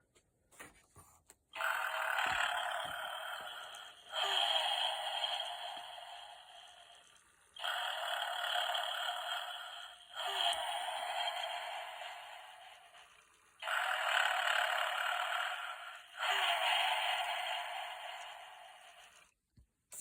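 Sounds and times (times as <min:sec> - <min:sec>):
recorded snore through small speaker: 0:01.6 - 0:19.3.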